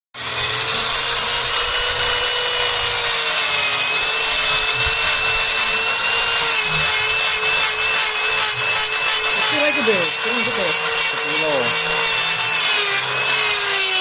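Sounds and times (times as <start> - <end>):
electric wood router running: 0.2 - 14.0.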